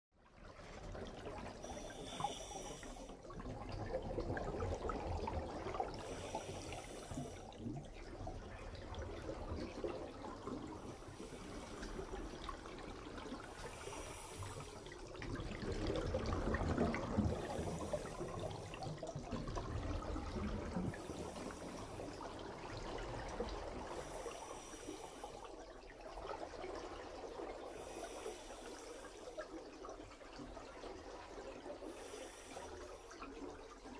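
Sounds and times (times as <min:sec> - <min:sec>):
underwater bubbling: 0:00.2 - 0:33.9.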